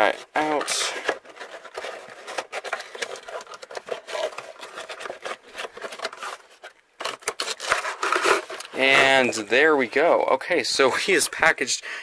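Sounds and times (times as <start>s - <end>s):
cardboard scraping and rubbing: 0.0s - 10.2s.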